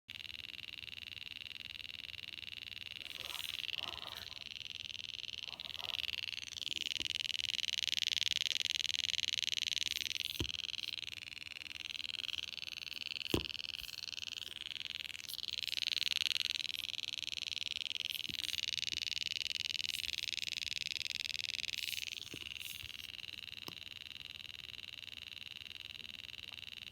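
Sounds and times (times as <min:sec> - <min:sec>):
rapid high-pitched ticking: 0:00.1 - 0:25.8.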